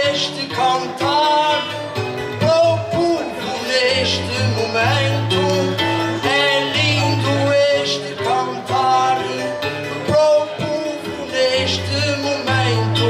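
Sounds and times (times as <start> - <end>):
low bass notes: 0.0 - 13.0
plucked guitar melody: 0.0 - 13.0.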